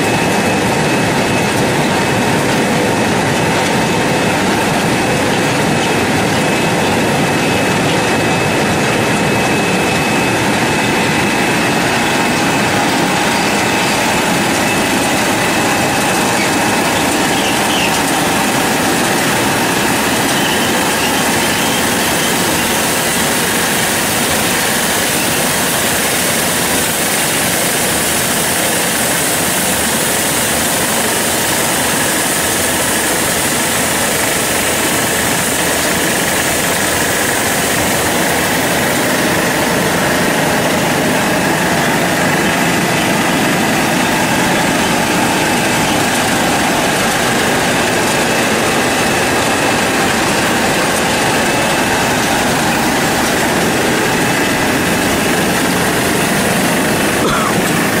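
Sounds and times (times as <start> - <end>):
spray nozzles and churning water: 0.0 - 58.0.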